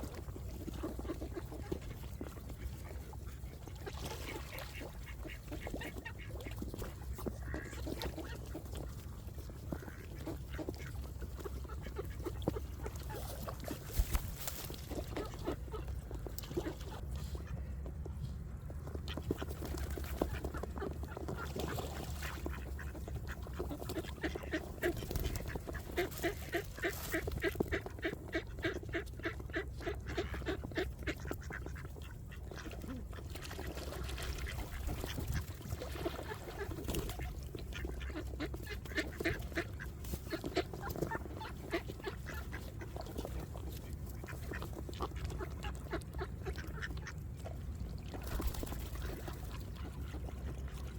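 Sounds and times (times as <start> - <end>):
ducks quacking: 0.0 - 18.2, 18.8 - 50.9.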